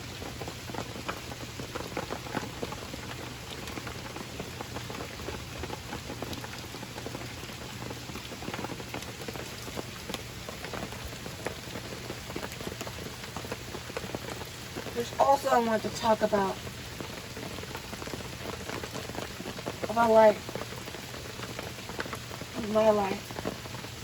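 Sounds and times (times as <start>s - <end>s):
raindrops ticking close: 0.0s - 24.0s
steady rain falling: 0.0s - 24.0s.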